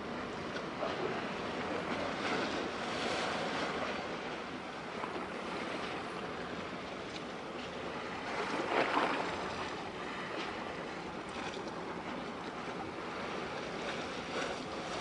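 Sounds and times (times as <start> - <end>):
sea wash: 0.0 - 15.0.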